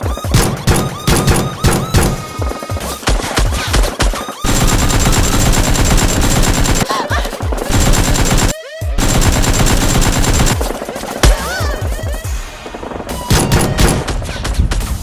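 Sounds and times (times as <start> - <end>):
automatic gunfire: 0.0 - 14.3.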